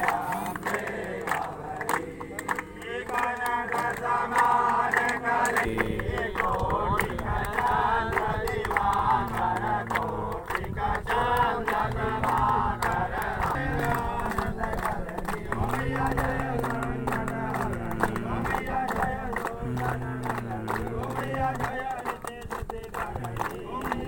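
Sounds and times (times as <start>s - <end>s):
crowd of men chanting: 0.0s - 24.0s.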